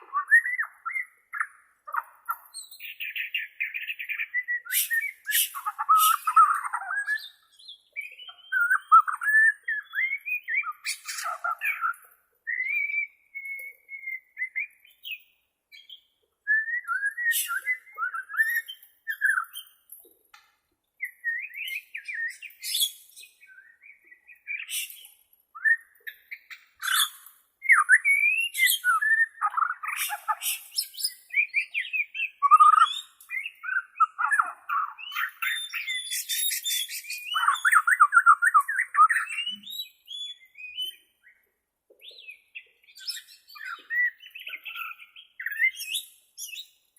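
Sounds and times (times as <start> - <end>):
bird singing whistled phrases: 0.0 - 19.8, 21.0 - 41.4, 42.0 - 46.8.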